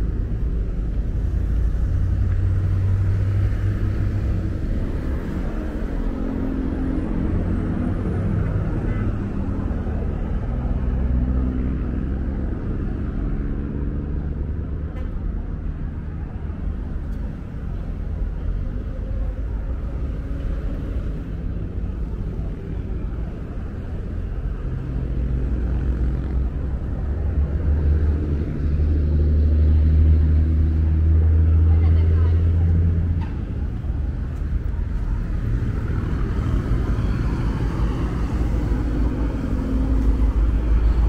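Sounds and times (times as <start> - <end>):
heavy engine: 0.0 - 41.0
vehicle engines rumbling: 0.0 - 41.0.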